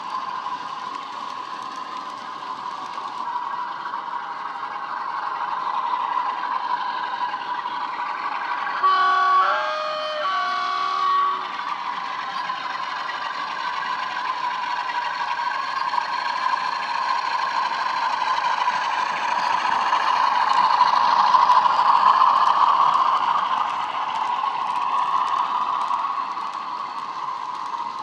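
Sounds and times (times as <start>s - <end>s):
model train engine sound: 0.0s - 28.0s.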